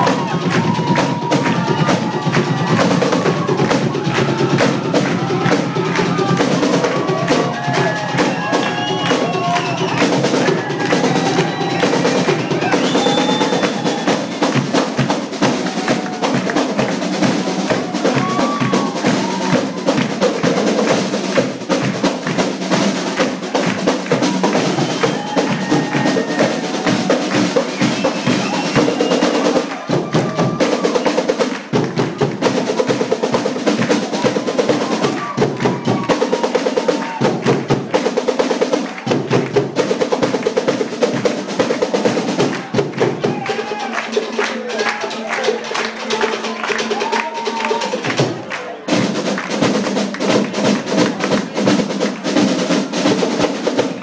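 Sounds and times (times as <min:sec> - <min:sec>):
snare and bass drum patterns: 0:00.0 - 0:54.0.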